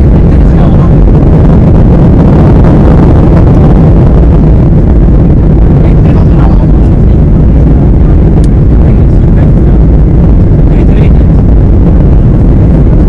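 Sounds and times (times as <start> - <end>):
air rushing over wing: 0.0 - 13.0
jet engines rumbling: 0.0 - 13.0.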